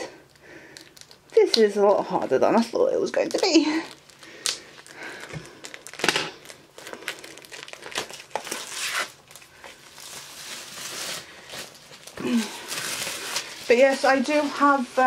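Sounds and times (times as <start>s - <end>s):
packaging crinkling and tearing: 0.2s - 1.7s, 3.0s - 15.0s.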